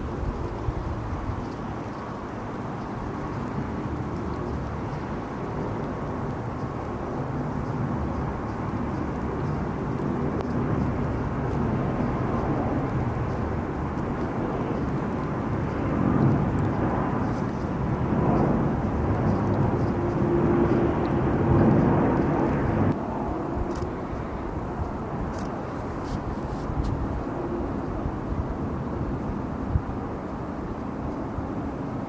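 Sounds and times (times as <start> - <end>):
jet engine rush: 0.0 - 32.0.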